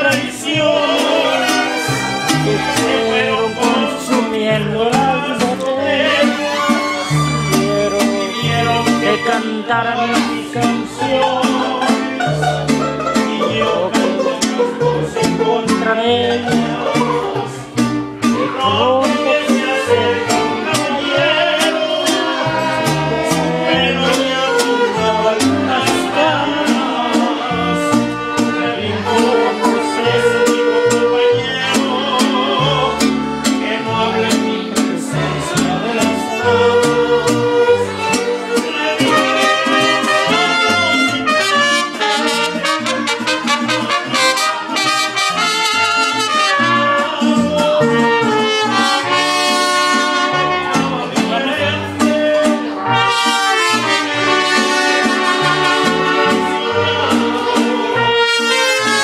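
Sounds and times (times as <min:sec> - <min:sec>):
latin music with brass: 0:00.0 - 0:59.0.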